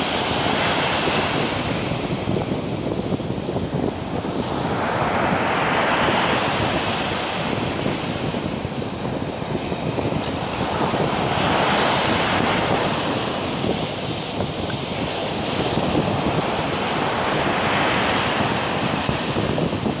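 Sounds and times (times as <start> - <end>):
surf breaking on a beach: 0.0 - 20.0
wind buffeting the microphone: 0.0 - 20.0.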